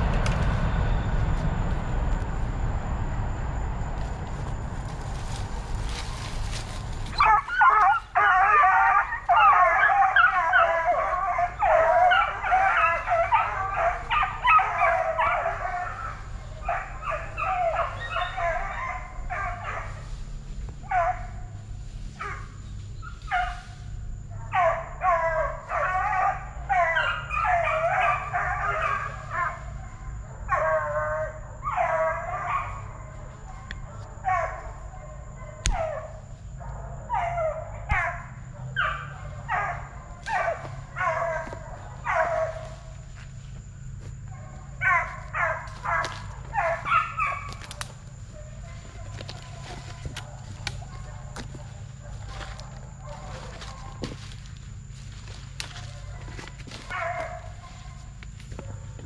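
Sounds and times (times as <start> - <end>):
puppies baying and howling: 5.4 - 59.0.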